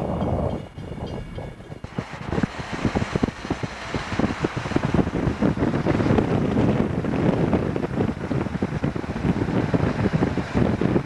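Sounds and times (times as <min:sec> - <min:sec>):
freight train rumble: 0:00.0 - 0:11.0
wind buffeting microphone: 0:00.0 - 0:11.0.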